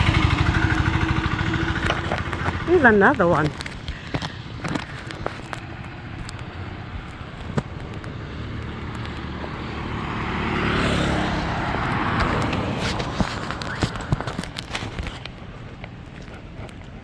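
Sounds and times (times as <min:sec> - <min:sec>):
vehicle passing by: 0:00.0 - 0:04.5, 0:05.8 - 0:16.8.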